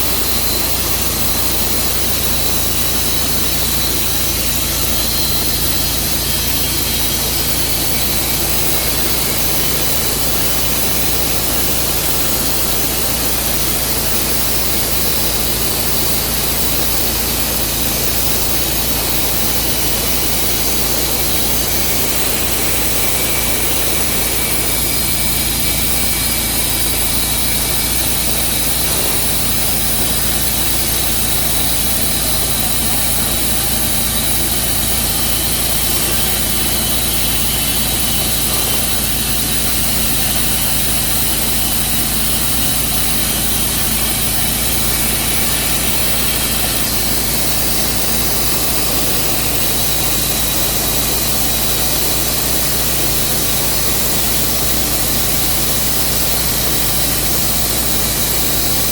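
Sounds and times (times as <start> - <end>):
sawmill engine running steadily: 0.0 - 58.9.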